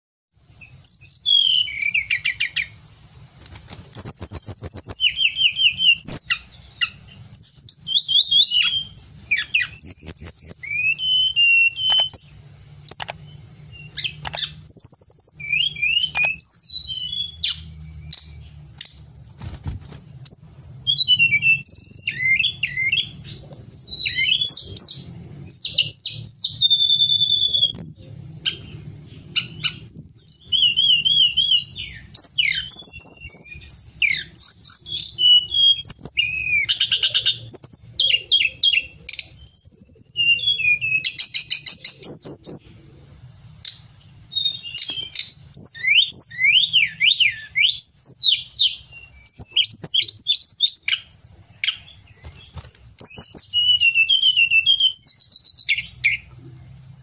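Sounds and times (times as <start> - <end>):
bird singing whistled phrases: 0.6 - 3.1, 4.0 - 18.5, 20.3 - 42.7, 43.6 - 56.3.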